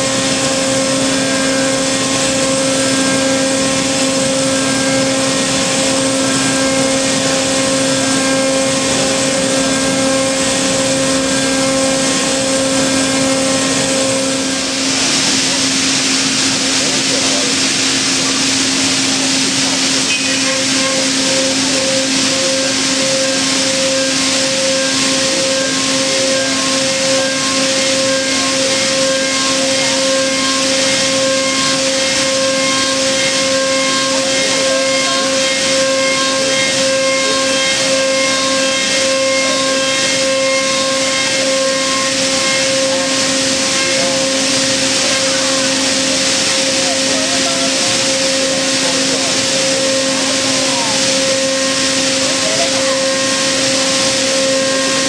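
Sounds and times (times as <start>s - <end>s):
router spindle whine and hiss: 0.0s - 55.0s.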